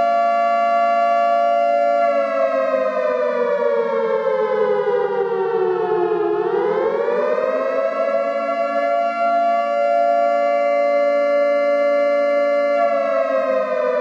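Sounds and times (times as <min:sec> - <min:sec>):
emergency alert alarm siren: 0:00.0 - 0:14.0.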